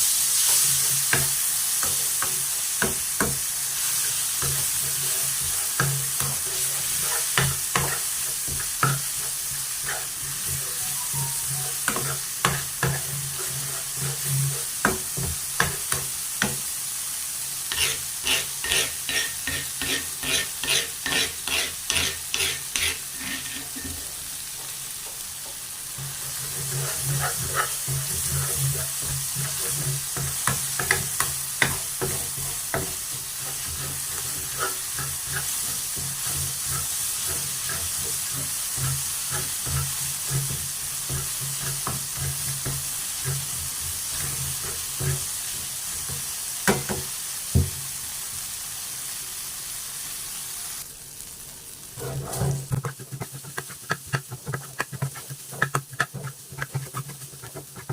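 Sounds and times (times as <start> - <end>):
food sizzling in a pan: 0.0 - 57.9
spatula scraping a pan: 0.3 - 16.6, 17.6 - 24.2, 25.9 - 47.0, 52.0 - 57.9.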